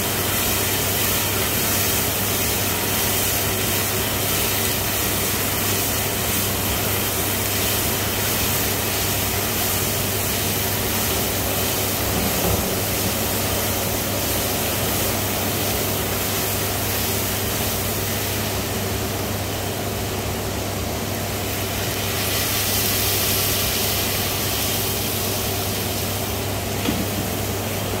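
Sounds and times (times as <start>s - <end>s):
gas burner rushing: 0.0s - 28.0s.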